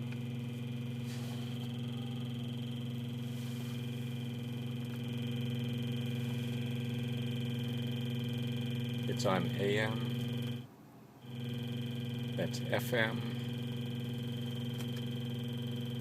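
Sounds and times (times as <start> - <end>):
electrical buzz through speakers: 0.0 - 16.0.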